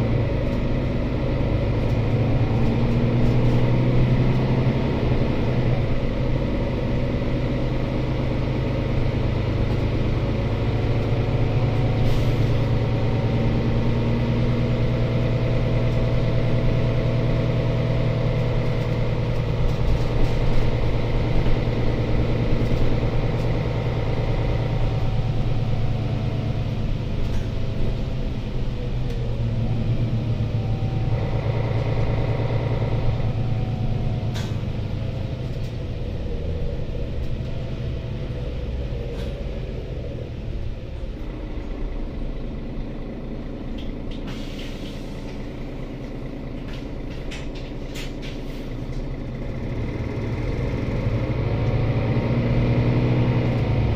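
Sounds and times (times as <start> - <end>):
bus engine hum: 0.0 - 53.9
road rumble: 0.0 - 53.9.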